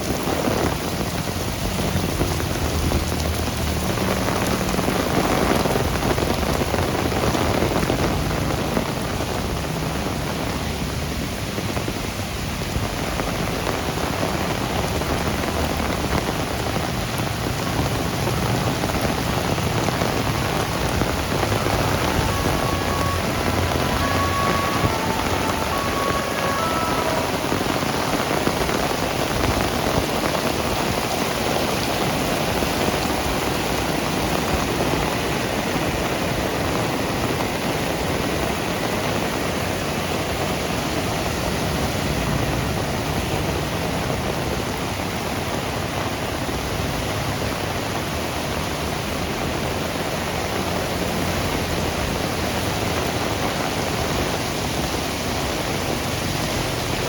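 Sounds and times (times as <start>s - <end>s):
running water: 0.0s - 45.7s
heavy rain falling: 0.0s - 57.0s.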